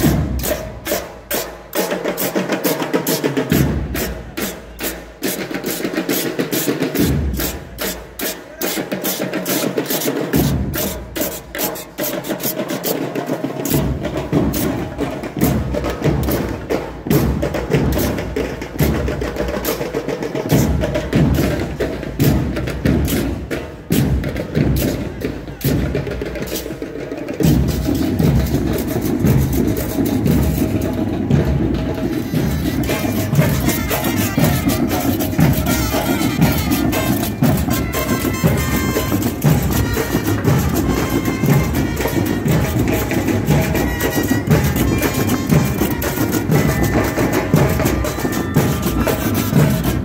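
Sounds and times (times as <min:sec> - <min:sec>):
metal percussion struck with sticks: 0:00.0 - 0:26.8, 0:27.4 - 0:50.0.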